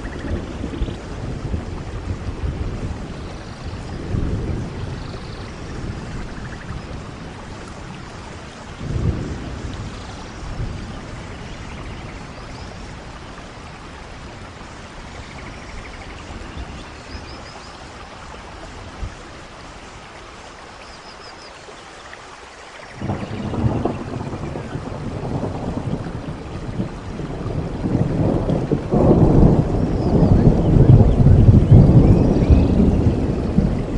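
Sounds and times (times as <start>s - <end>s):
steady rainfall: 0.0s - 33.9s.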